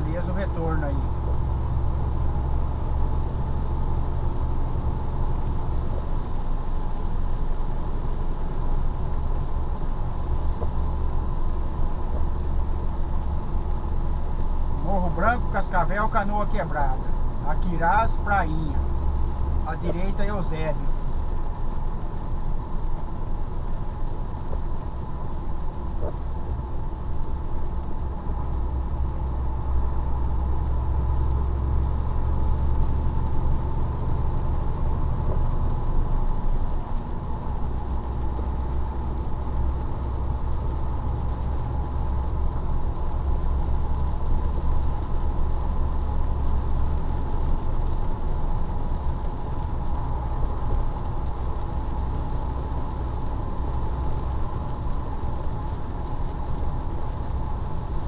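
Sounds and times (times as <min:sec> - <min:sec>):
faint steady whine: 0:00.0 - 0:58.0.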